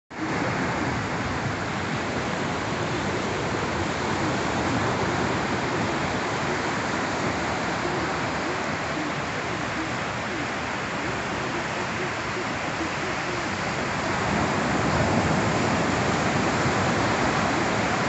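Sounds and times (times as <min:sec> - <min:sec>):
small waves breaking on beach: 0:00.1 - 0:18.0.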